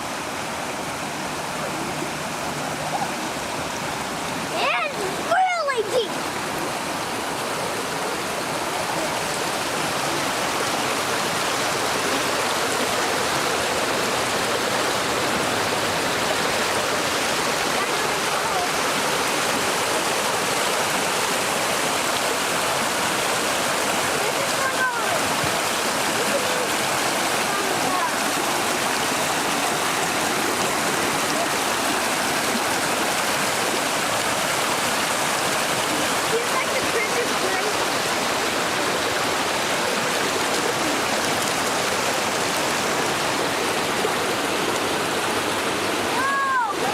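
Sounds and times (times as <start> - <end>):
creek water rushing: 0.0 - 46.9.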